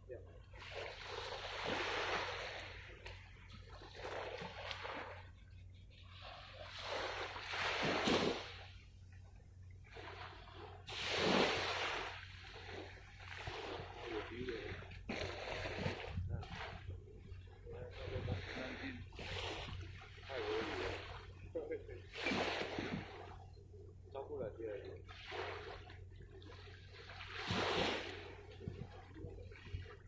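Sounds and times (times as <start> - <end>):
steady low hum: 0.0 - 30.0
small waves washing onto shore: 0.4 - 23.5, 24.6 - 30.0.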